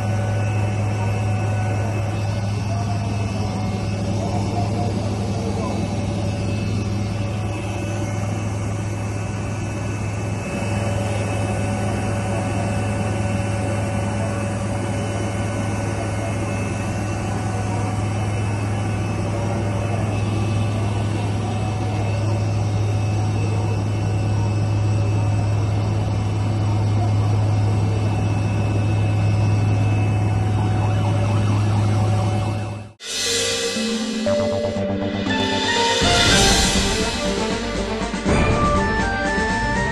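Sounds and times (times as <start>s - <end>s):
helicopter droning: 0.0s - 39.9s.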